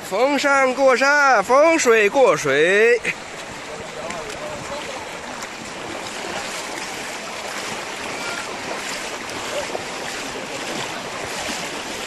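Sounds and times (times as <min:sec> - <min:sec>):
people wading through river water: 0:00.0 - 0:12.0.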